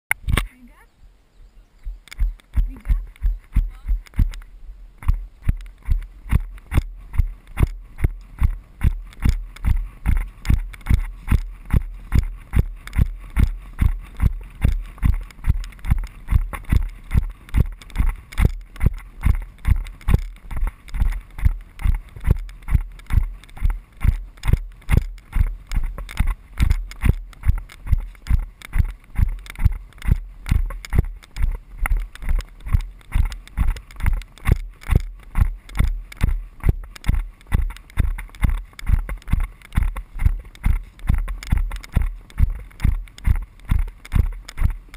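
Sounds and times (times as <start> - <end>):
horse hoofbeats on sand: 1.8 - 44.9.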